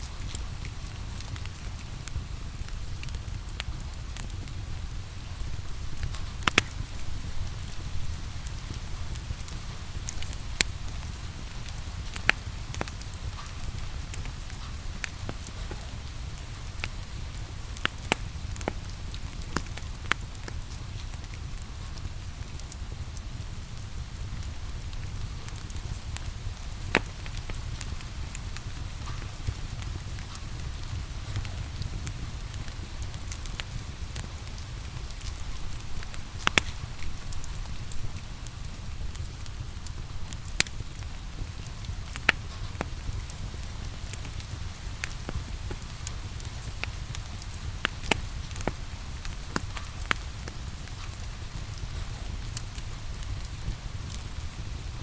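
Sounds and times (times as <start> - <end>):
rain hiss: 0.0 - 55.0
wood fire crackling: 0.0 - 55.0
fire pops: 0.1 - 55.0.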